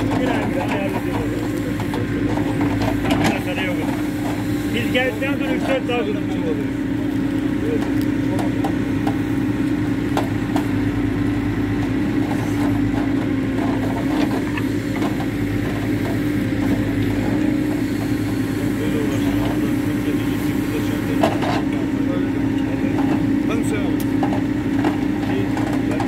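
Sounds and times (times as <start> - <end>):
backhoe digging soil: 0.0 - 26.0
diesel engine running: 0.0 - 26.0.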